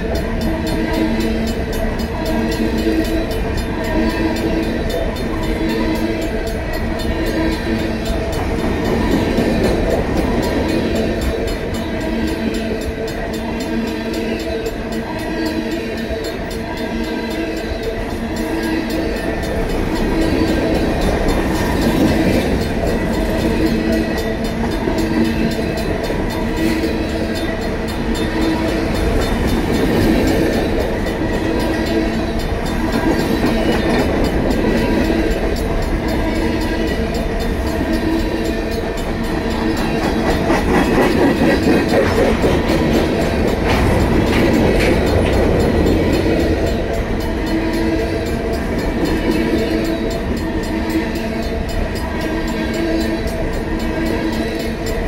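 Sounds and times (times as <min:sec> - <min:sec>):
crossing bells ringing: 0:00.0 - 0:55.0
train wheels rumbling on rails: 0:00.0 - 0:55.0.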